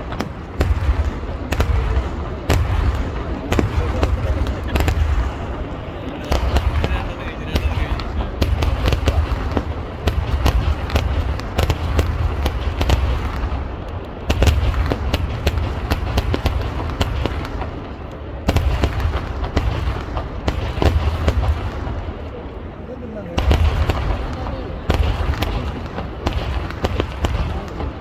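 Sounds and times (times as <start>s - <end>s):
firecracker bangs: 0.0s - 22.4s, 23.4s - 28.0s.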